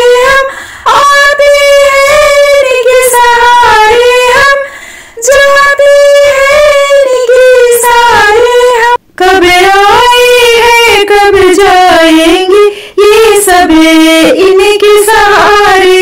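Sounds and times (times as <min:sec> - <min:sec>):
woman singing devotional song: 0:00.0 - 0:16.0.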